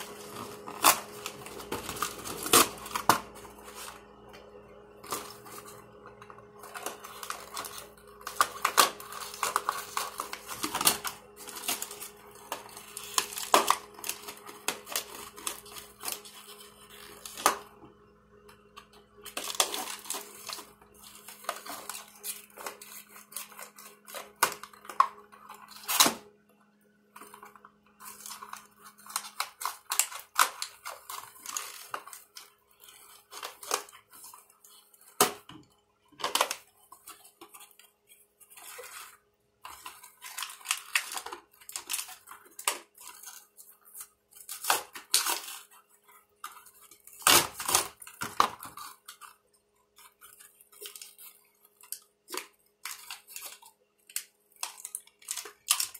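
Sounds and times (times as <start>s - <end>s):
packaging rustling: 0.0s - 17.9s, 18.6s - 26.3s, 27.1s - 55.9s.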